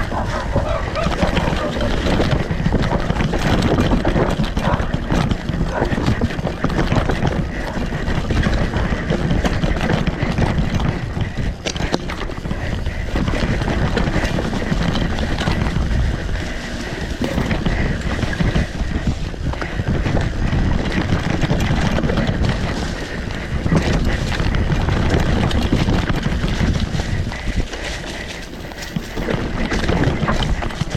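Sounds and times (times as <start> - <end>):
bike rattling over bumps: 0.0 - 30.9
tyres rolling on dirt: 0.0 - 30.9
wind buffeting microphone: 0.0 - 30.9.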